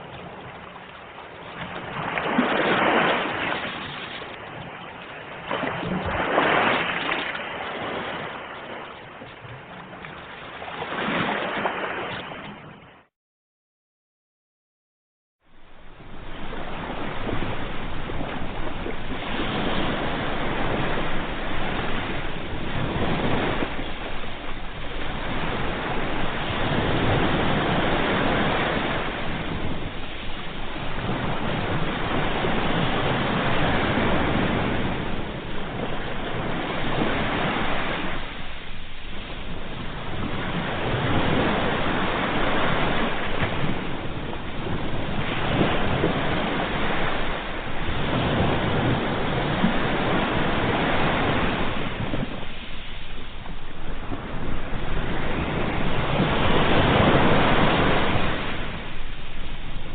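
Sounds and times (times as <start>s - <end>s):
sea waves breaking: 0.0s - 13.1s, 15.5s - 59.9s.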